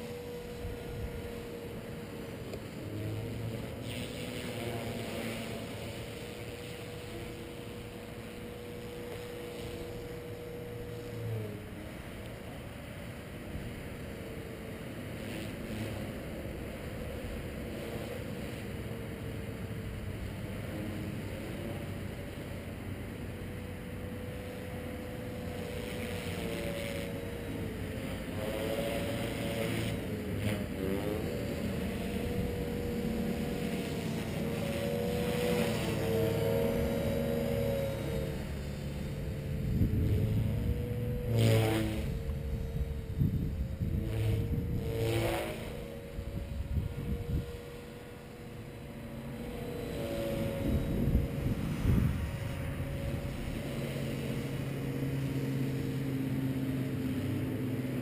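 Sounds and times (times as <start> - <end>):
rc helicopter whine: 0.0 - 58.0.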